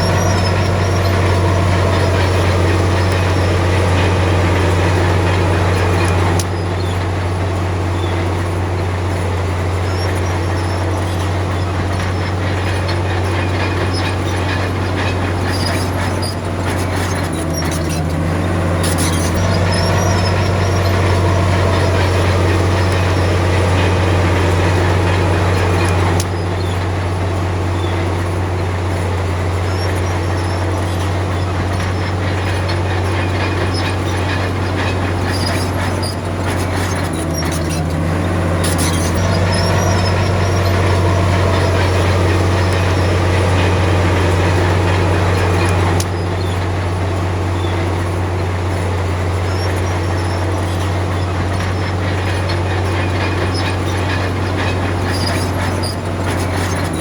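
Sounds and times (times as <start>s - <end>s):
bulldozer diesel engine droning: 0.0s - 57.0s
steel tracks squealing and clattering: 0.0s - 57.0s.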